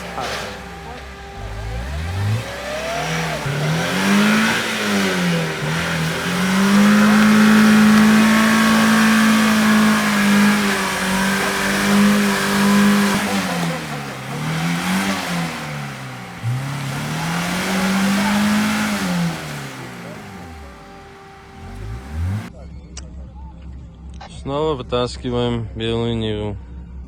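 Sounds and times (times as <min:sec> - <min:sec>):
car engine revving: 0:00.0 - 0:22.5.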